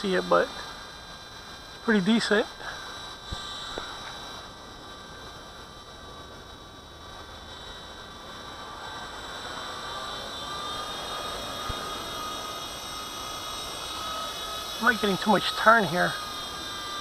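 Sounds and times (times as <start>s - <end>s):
electric motor whining: 0.0s - 17.0s
rotor blades whirring: 0.0s - 17.0s.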